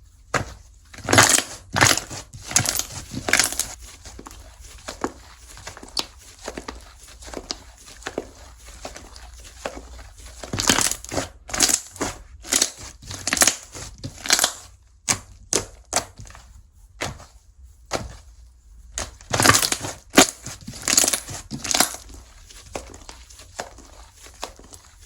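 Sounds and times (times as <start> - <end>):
slime crackling: 0.4 - 25.0.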